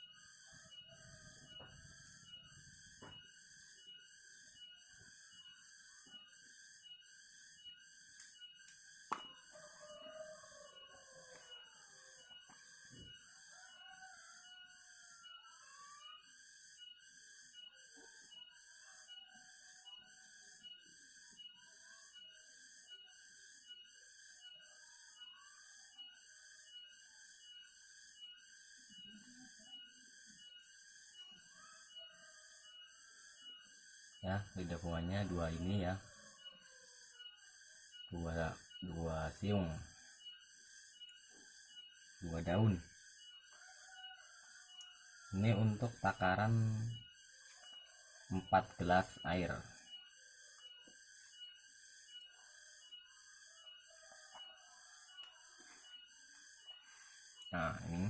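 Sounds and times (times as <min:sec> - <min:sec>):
faint regular chirping: 0:00.0 - 0:58.0.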